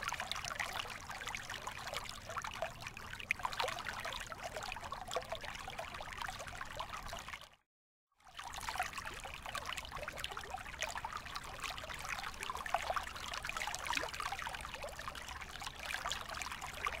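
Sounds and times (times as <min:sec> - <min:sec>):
aquarium water trickling and splashing: 0:00.0 - 0:07.6, 0:08.2 - 0:17.0.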